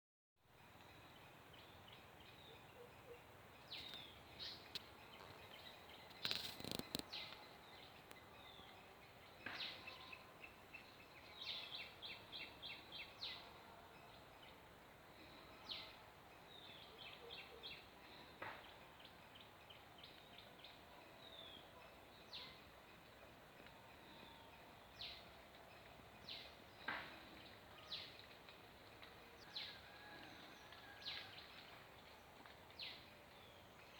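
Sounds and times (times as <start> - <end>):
wild birds chirping and trilling: 0.6 - 33.9.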